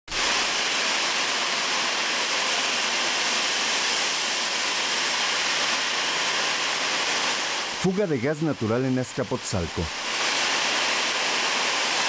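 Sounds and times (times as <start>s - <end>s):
gas jetting with loud hiss: 0.1s - 12.0s.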